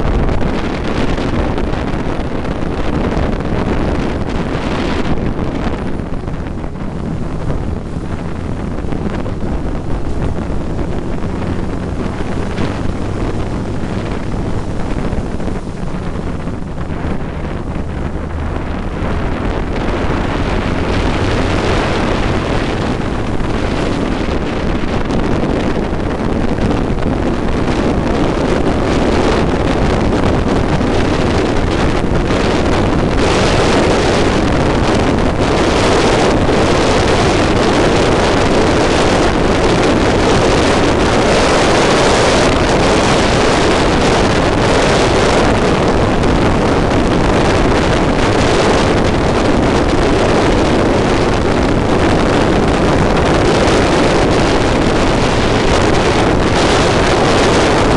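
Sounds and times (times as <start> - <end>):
race car engine at speed: 0.0 - 57.9
wind buffeting microphone: 0.0 - 57.9.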